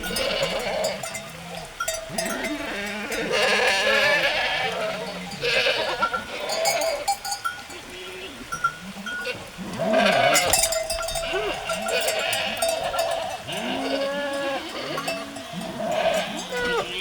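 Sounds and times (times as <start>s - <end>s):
bells clinking: 0.0s - 17.0s
sheep bleating: 0.0s - 17.0s.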